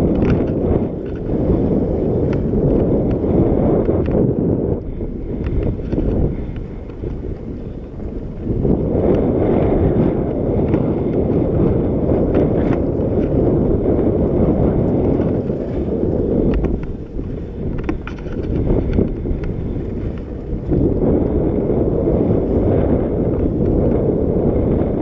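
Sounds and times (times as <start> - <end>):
bike clicks and rattles: 0.0 - 25.0
wind on microphone: 0.0 - 25.0.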